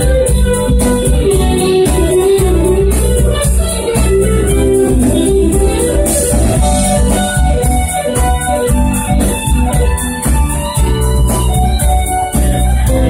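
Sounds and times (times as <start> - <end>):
live band playing dance music: 0.0 - 13.0.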